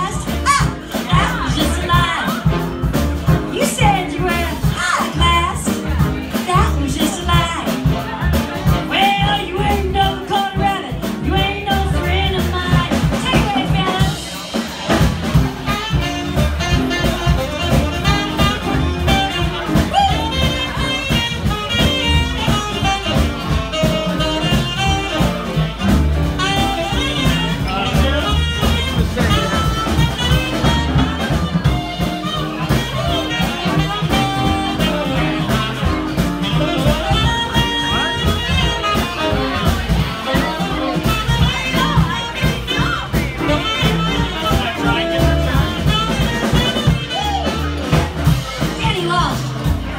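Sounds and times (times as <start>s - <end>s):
saxophone lead: 0.0s - 49.9s
swing band playing: 0.0s - 49.9s.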